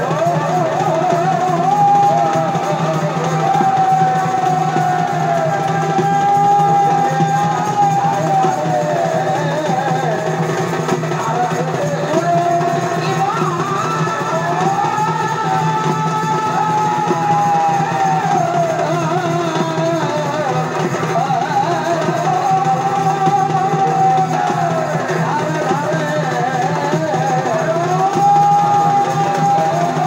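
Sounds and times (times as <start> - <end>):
drums: 0.0 - 30.0.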